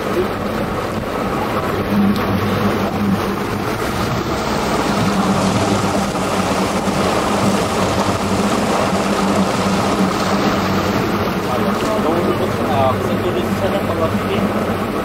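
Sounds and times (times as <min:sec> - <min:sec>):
boat engine humming: 0:00.0 - 0:15.0
water washing: 0:00.0 - 0:15.0
wind noise: 0:00.0 - 0:15.0.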